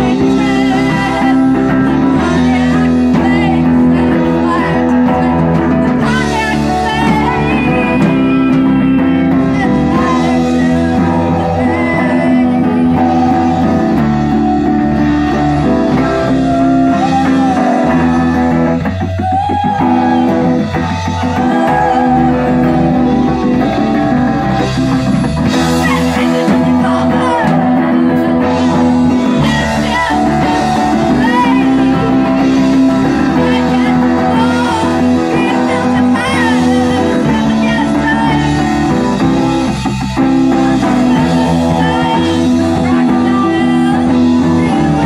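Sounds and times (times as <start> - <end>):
electric guitar: 0.0 - 45.0
live rock band playing: 0.0 - 45.0.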